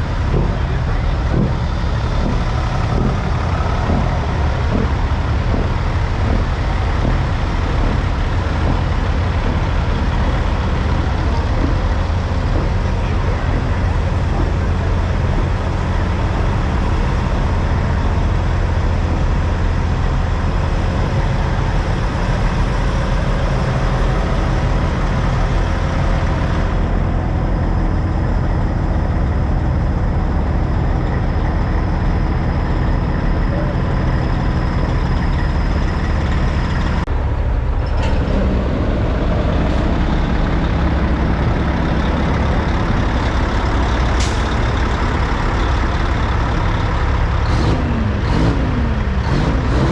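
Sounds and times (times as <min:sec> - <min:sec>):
diesel truck engines rumbling: 0:00.0 - 0:49.9.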